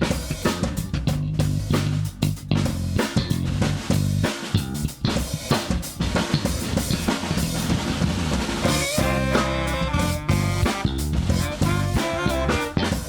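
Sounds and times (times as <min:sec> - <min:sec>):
band playing live: 0:00.0 - 0:13.0
drum kit kick and snare: 0:00.0 - 0:13.0.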